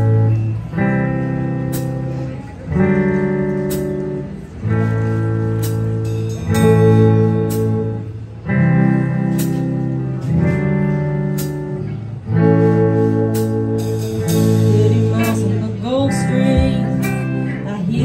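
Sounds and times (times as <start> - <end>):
electric guitars ringing chords: 0.0 - 18.0.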